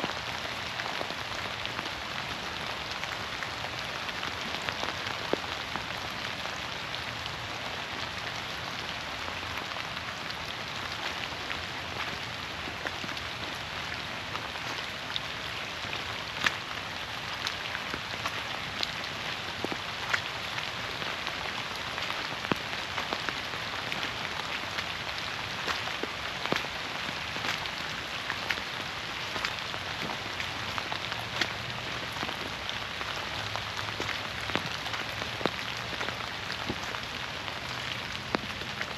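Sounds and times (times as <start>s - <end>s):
rain falling through forest canopy: 0.0s - 38.9s
raindrops striking close by: 0.0s - 38.9s.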